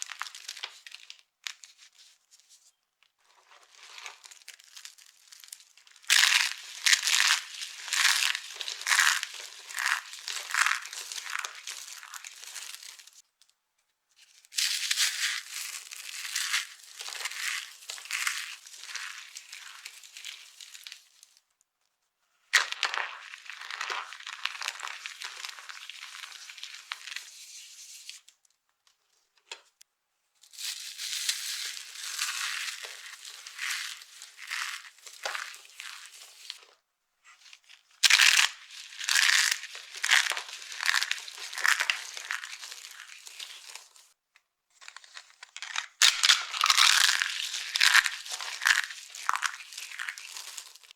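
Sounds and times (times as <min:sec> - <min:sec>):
dry soap crunching: 0:00.0 - 0:01.7, 0:03.2 - 0:13.2, 0:14.6 - 0:21.4, 0:22.6 - 0:27.4, 0:30.7 - 0:36.8, 0:38.0 - 0:44.2, 0:44.8 - 0:50.9.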